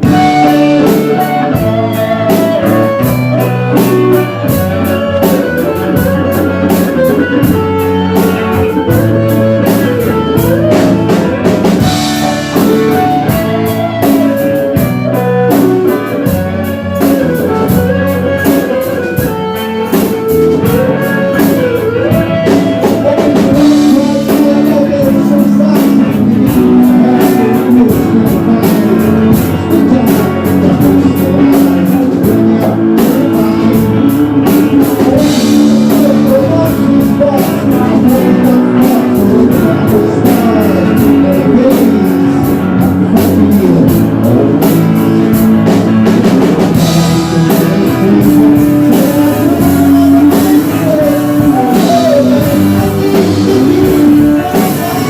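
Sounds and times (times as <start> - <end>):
drum kit beat: 0.0 - 55.0
guitar melody: 0.0 - 55.0
live band playing: 0.0 - 55.0.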